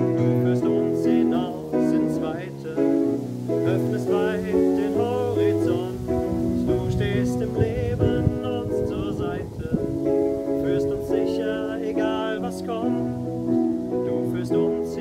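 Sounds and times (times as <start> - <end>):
keyboard playing sustained chords: 0.0 - 15.0
man singing: 0.0 - 15.0.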